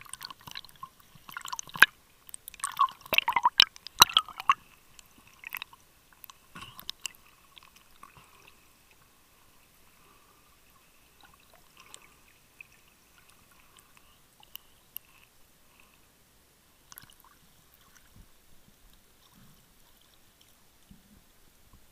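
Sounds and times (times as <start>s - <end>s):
underwater clicks and crackles: 0.0s - 9.8s, 10.7s - 16.0s, 16.9s - 21.9s
quiet underwater hiss: 0.0s - 21.9s.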